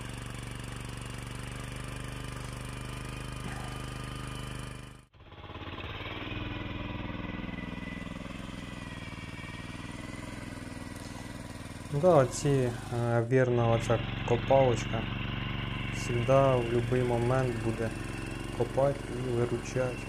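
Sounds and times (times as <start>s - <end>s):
small tractor engine running: 0.0s - 20.0s.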